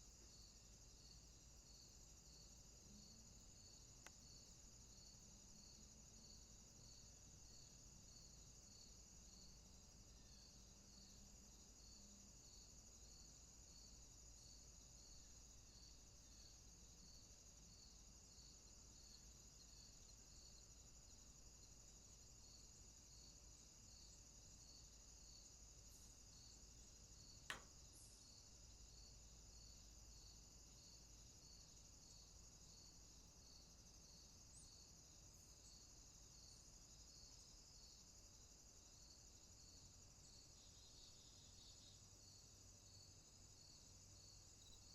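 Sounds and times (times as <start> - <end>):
crickets trilling: 0.0 - 44.9
soft insect chirp: 0.0 - 44.9.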